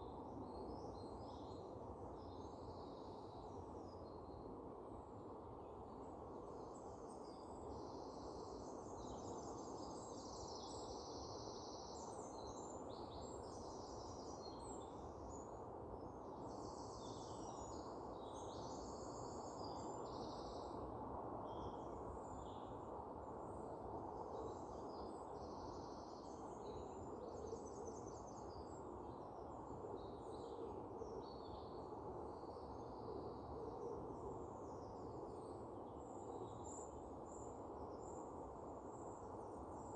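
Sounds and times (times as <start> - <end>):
low background hiss: 0.0 - 39.9.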